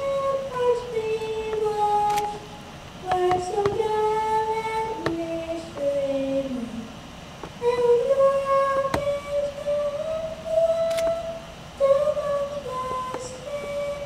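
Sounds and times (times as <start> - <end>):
woman singing solo: 0.0 - 7.0, 7.6 - 14.0.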